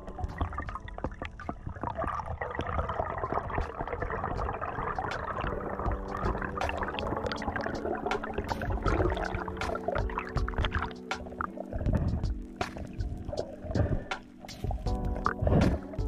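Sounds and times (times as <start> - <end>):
slow ambient music: 0.0 - 16.0
underwater water noise: 0.0 - 16.0.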